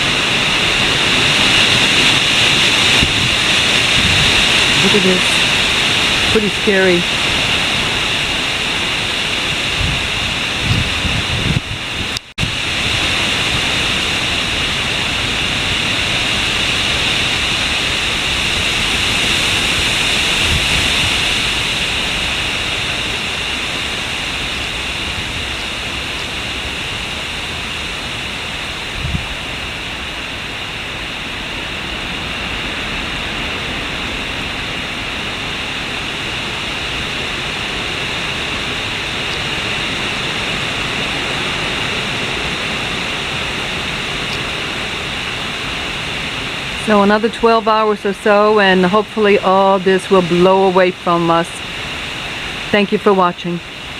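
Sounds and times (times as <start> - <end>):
hurricane wind and rain: 0.0 - 53.9.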